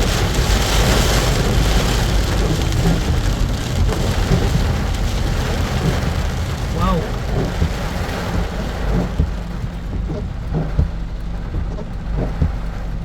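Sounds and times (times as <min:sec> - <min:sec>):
continuous low rumble: 0:00.0 - 0:13.0
heavy rain pelting a car: 0:00.0 - 0:13.0.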